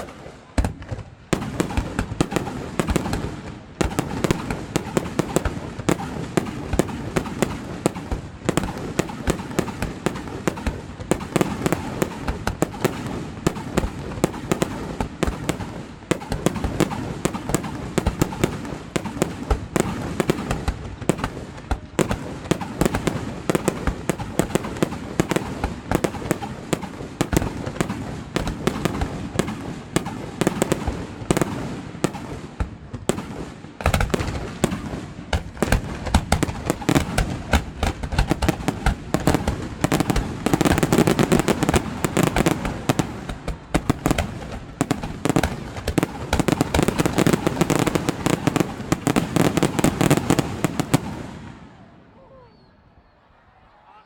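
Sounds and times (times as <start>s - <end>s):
fireworks crackling bangs: 0.0s - 51.7s.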